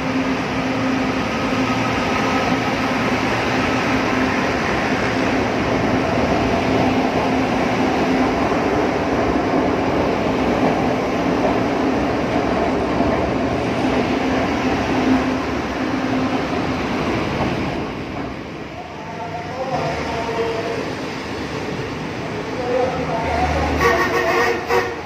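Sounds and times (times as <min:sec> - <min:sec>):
electric train humming and rumbling: 0:00.0 - 0:25.0.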